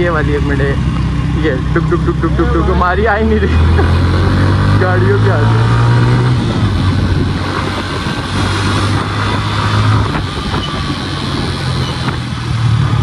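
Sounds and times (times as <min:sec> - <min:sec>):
city traffic noise: 0:00.0 - 0:13.0
motorcycle engine running: 0:00.0 - 0:13.0.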